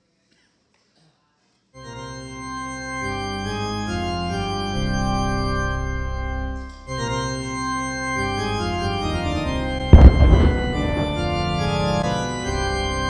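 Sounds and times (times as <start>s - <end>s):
organ playing held chords: 1.8s - 13.0s.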